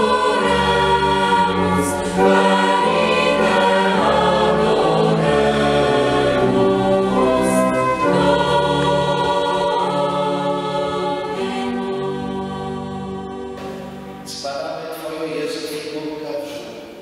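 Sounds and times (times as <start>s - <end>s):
mixed choir singing carol: 0.0s - 15.7s.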